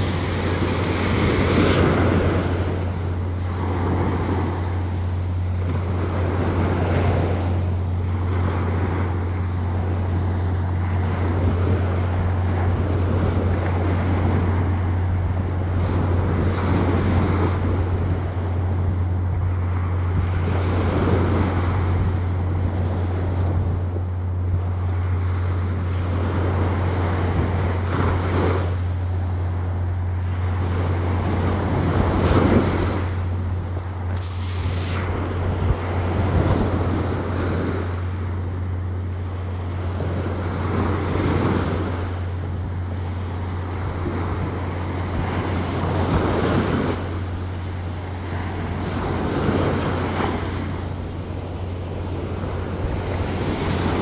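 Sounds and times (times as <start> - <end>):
surf breaking on beach: 0.0 - 54.0
wind rumble on microphone: 0.0 - 54.0.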